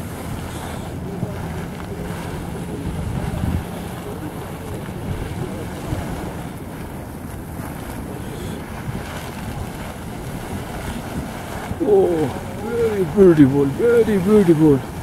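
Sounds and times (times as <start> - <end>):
geyser venting steam: 0.0 - 15.0
wind buffeting microphone: 0.0 - 15.0.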